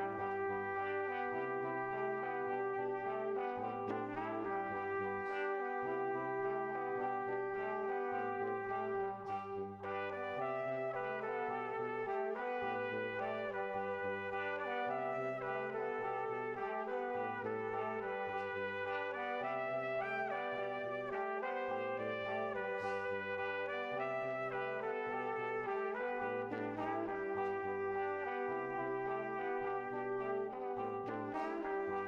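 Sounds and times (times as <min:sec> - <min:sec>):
instrumental background music: 0:00.0 - 0:32.0.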